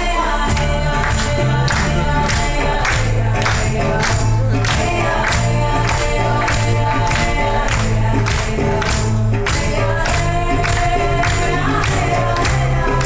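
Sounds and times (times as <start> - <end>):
song over loudspeakers: 0.0 - 13.0.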